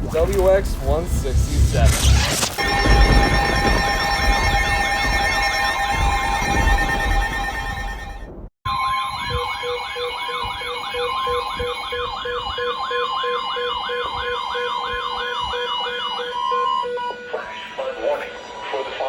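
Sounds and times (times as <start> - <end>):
steady high alert tone: 1.2 - 19.0
fast-sweeping siren tone: 1.8 - 19.0
on-off beep: 1.9 - 18.9.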